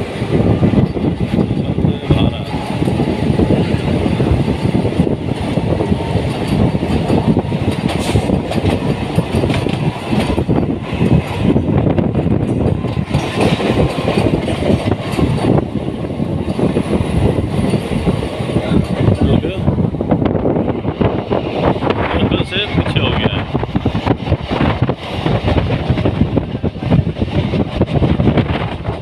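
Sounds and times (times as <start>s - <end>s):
train rumbling on track: 0.0s - 29.0s.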